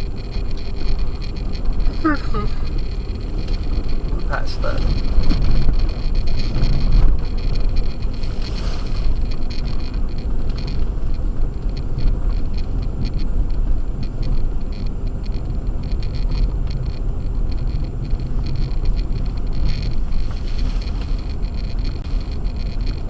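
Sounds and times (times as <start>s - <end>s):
car engine: 0.0s - 23.0s
faint crackle: 0.0s - 23.0s
tyre and road rumble: 0.0s - 23.0s.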